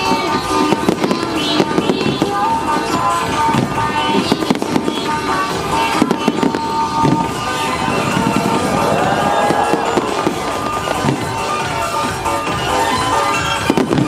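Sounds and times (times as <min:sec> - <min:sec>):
fireworks bangs: 0:00.0 - 0:14.0
loud music: 0:02.6 - 0:14.0.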